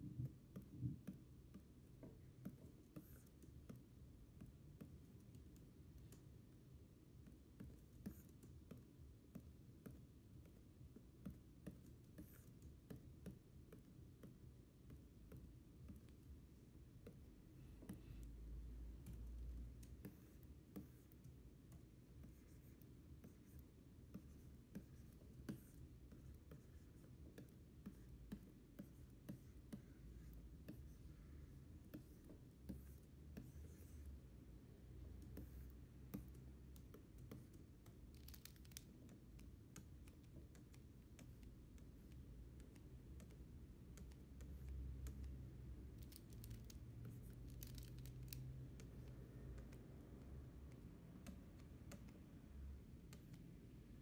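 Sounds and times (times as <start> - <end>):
stylus tapping and scratching screen: 0.0 - 54.0.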